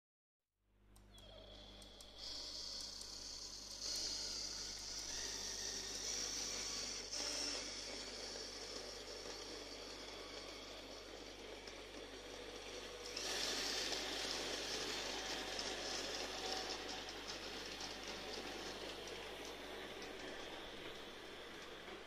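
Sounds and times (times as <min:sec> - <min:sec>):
model train wheels rattling on rails: 0:01.6 - 0:22.0.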